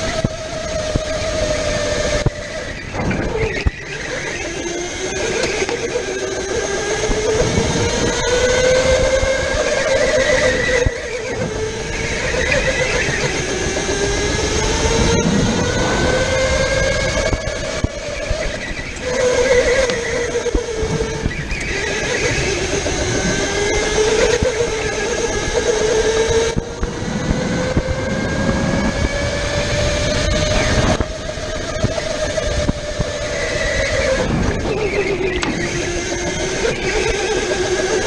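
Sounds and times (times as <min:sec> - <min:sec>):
electric go-kart motor whining: 0:00.0 - 0:38.0.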